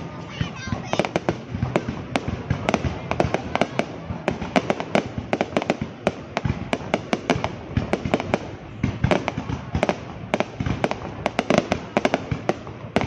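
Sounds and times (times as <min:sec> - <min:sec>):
continuous low rumble: 0:00.0 - 0:13.0
fireworks bangs and cracks: 0:00.0 - 0:13.0.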